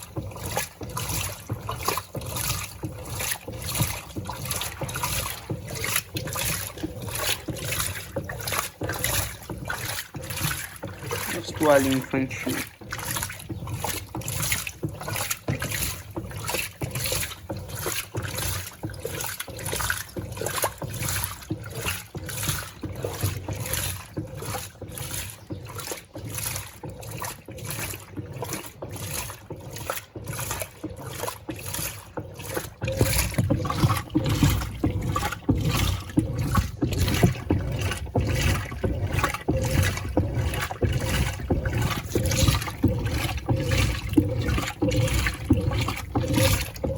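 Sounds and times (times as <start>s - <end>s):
washing machine sloshing and churning: 0.0s - 46.9s.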